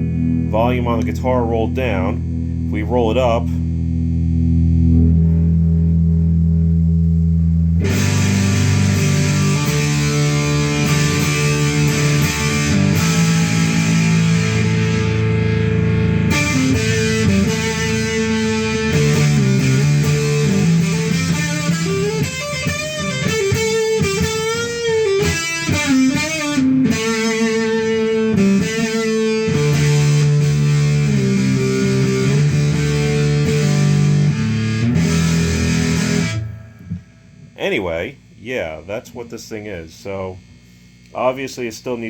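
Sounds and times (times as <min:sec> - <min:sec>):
bent wavering guitar notes: 0:00.0 - 0:38.2
distorted electric guitar chords: 0:00.0 - 0:39.3.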